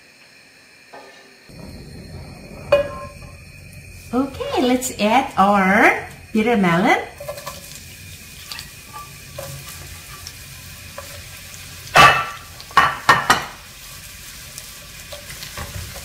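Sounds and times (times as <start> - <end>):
vegetables sizzling in hot oil: 2.0 - 16.0.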